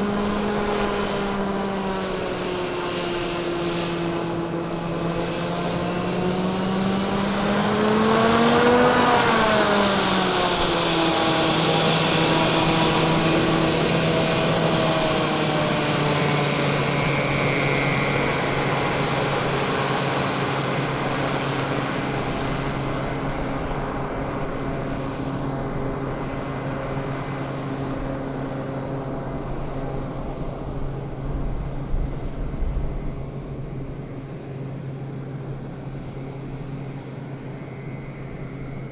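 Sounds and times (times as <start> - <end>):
turbine engine whine: 0.0 - 38.9.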